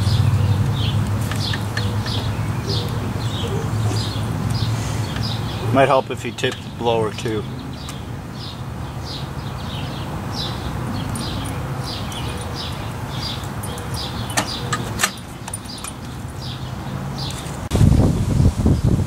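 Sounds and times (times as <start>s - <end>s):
bird chirping: 0.0s - 17.6s.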